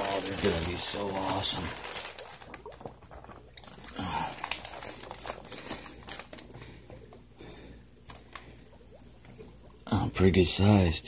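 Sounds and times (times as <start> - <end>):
wet plastic bag crinkling: 0.0 - 9.9.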